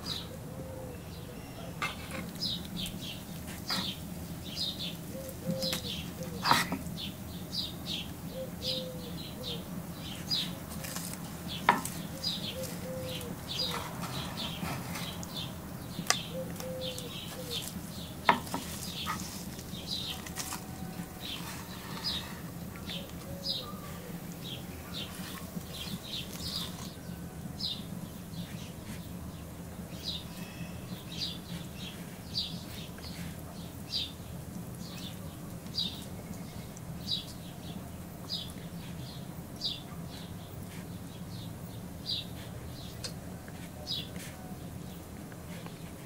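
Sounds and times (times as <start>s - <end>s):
low background hum: 0.0s - 46.0s.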